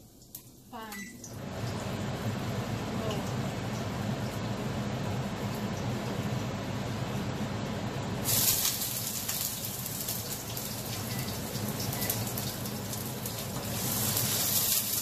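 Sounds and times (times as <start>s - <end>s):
low steady hum: 0.0s - 14.7s
food frying in hot oil: 0.8s - 15.0s.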